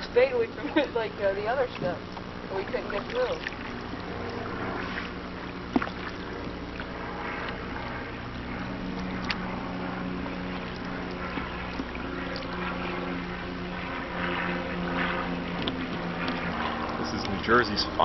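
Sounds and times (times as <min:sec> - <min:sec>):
steady low tonal hum: 0:00.0 - 0:18.0.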